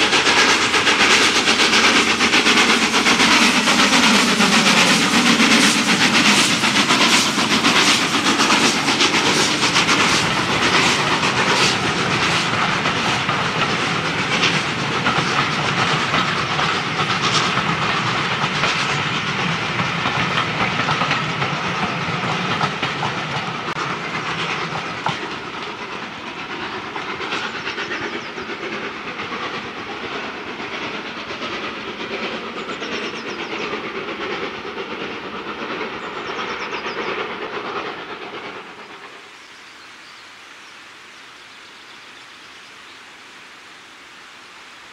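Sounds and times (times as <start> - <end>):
train wheels clicking over rail joints: 0.0 - 39.2
steam locomotive exhaust beats: 0.0 - 39.3.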